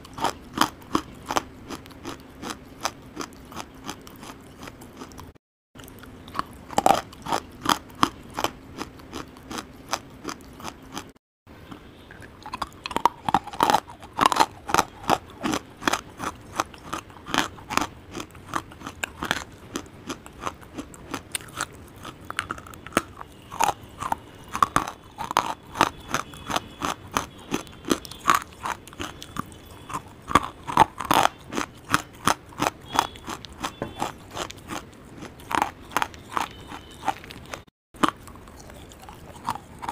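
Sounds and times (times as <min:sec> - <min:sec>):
chewing hard dry clay: 0:00.0 - 0:39.9.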